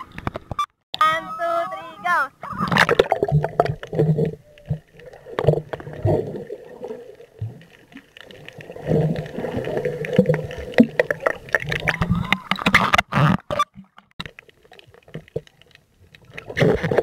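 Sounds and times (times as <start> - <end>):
low underwater rumbles: 2.5 - 17.0
underwater gurgling and bubbling: 2.7 - 17.0.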